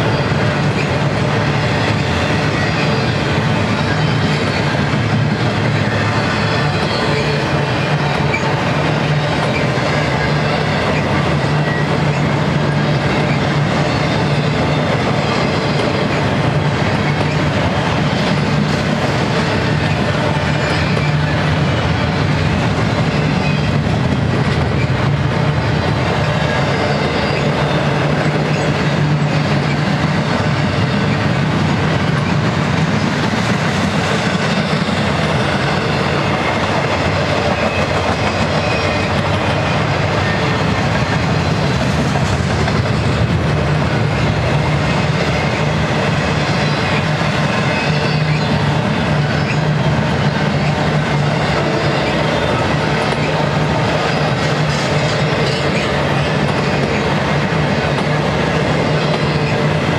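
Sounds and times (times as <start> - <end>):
steel wheels on rail: 0.0 - 59.9.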